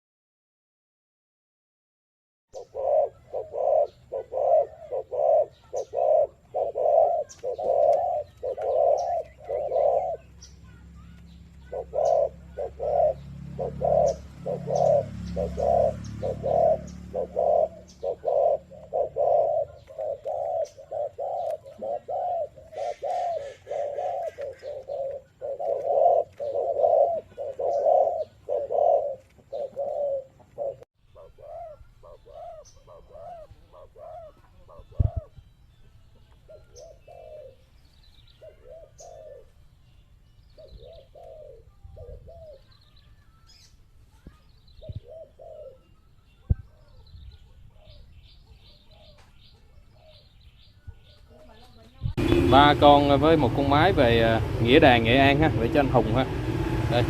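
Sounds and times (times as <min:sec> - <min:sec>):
doves cooing: 0:02.6 - 0:39.8, 0:40.5 - 0:43.6, 0:44.6 - 0:57.0.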